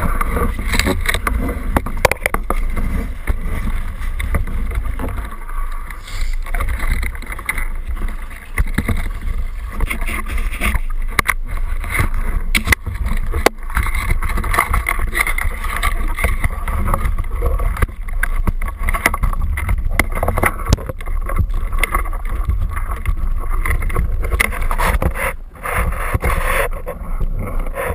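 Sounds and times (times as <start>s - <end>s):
water splashing against boat: 0.0s - 27.9s
wind on microphone: 0.0s - 27.9s.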